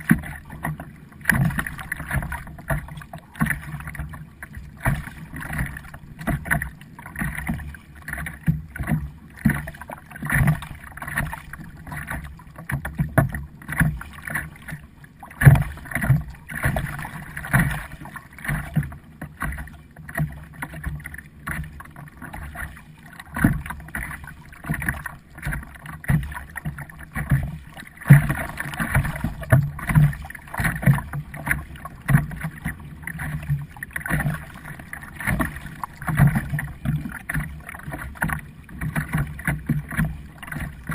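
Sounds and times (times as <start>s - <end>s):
paddle splashing in water: 0.0s - 40.9s
water sloshing against hull: 0.0s - 40.9s.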